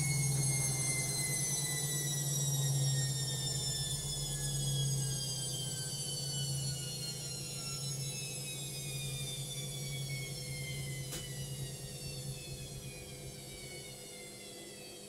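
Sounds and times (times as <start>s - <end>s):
washing machine spinning: 0.0s - 15.0s.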